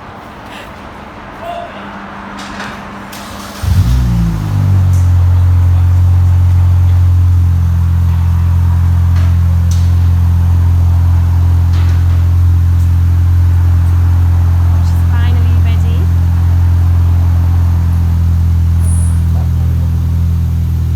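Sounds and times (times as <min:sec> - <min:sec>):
car engine starting and idling: 0:01.9 - 0:20.9.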